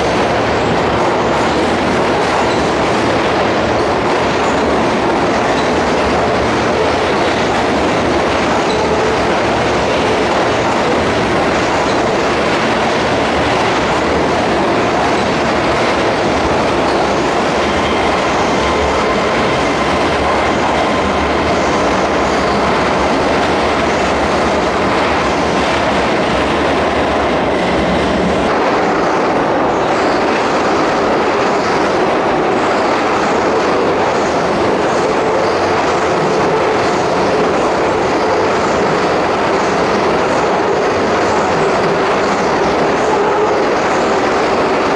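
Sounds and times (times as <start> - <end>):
electric train rumbling: 0.0 - 44.9.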